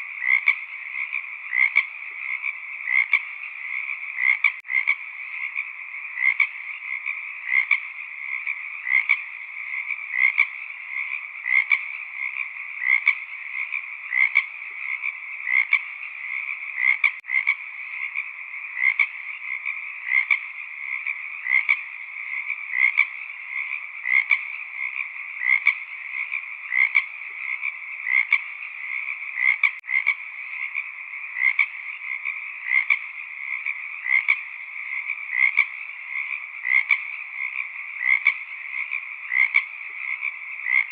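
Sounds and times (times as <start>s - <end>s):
frogs croaking: 0.0s - 40.9s
loud repeating frog call: 0.0s - 40.9s.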